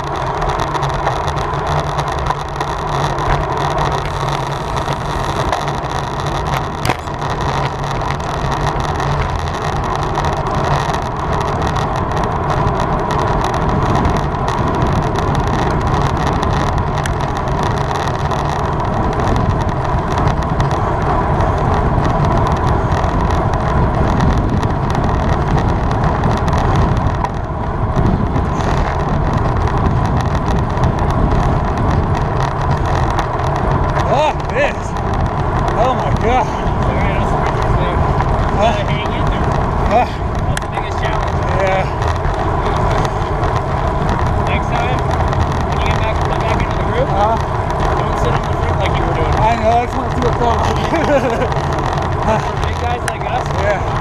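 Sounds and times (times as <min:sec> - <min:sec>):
bike tyre noise: 0:00.0 - 0:54.0.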